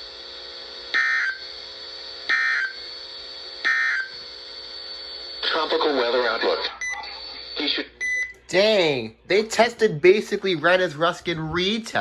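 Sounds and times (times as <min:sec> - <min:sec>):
receiver hum and hiss: 0:00.0 - 0:12.0.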